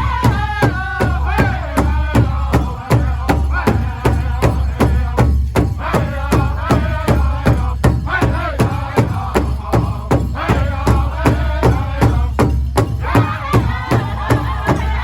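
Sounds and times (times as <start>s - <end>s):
large drum beating: 0.0s - 15.0s
singers singing in unison: 0.0s - 15.0s.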